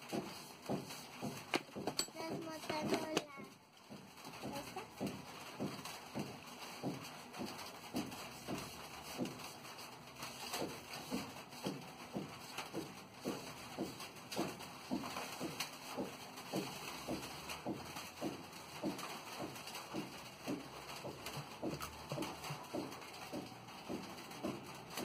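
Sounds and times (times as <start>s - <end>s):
cloth rubbing wooden frame: 0.0s - 25.0s.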